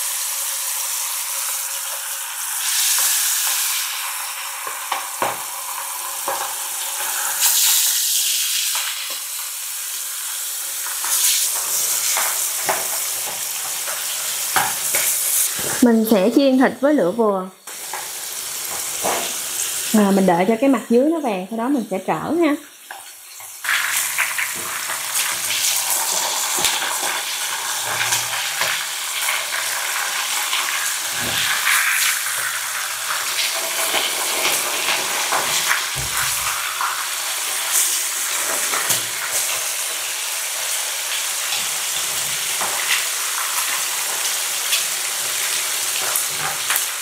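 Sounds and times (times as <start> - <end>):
oil crackling and popping: 0.0 - 15.9, 17.6 - 20.3, 22.8 - 47.0
pork frying in hot oil: 0.0 - 47.0.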